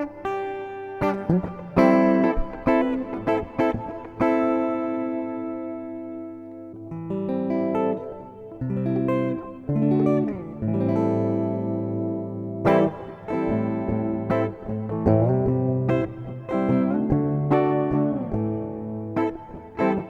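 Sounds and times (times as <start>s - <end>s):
guitar chords with reverb: 0.0s - 20.0s
picked guitar notes: 0.0s - 20.0s.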